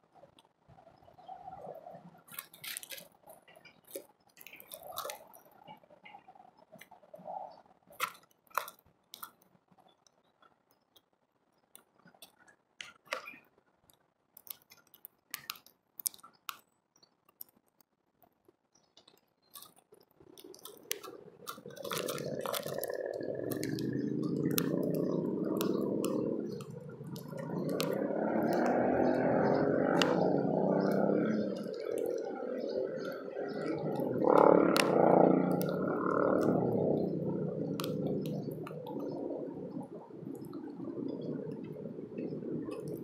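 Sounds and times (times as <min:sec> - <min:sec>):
birds pecking seed: 0:00.0 - 0:17.9, 0:18.7 - 0:43.0.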